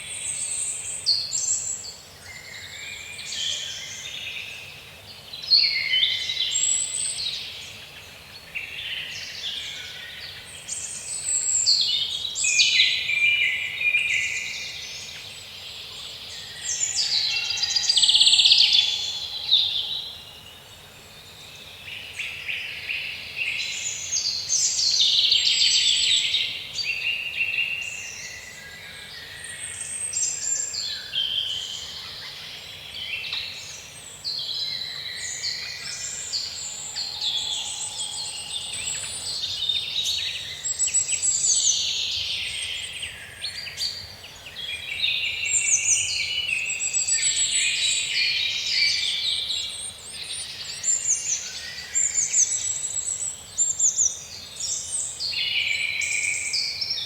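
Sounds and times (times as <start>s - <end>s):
songbirds chorus: 0.0s - 57.0s.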